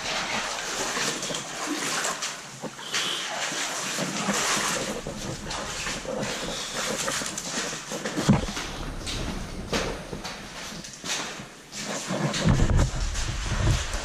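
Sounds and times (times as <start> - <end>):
clothing rustle: 0.0 - 14.0.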